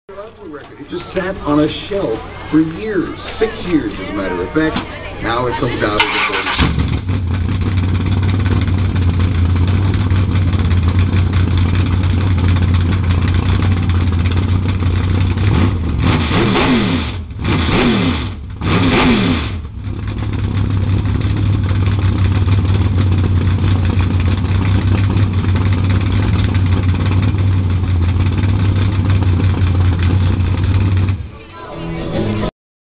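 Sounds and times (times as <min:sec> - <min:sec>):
race car engine idling and revving: 0:00.2 - 0:32.5.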